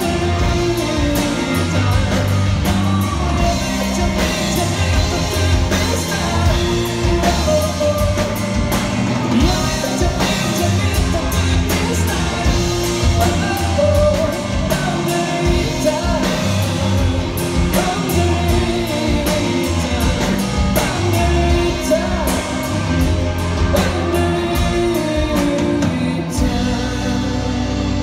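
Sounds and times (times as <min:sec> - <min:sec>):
man singing: 0:00.0 - 0:28.0
rock band playing: 0:00.0 - 0:28.0.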